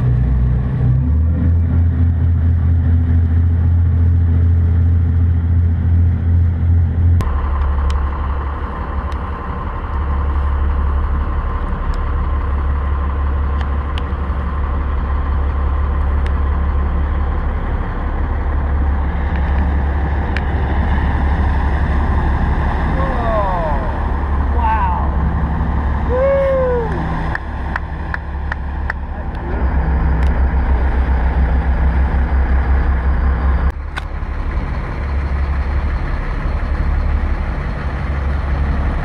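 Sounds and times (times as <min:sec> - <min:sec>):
boat engines droning: 0:00.0 - 0:39.0
hum: 0:00.0 - 0:39.0.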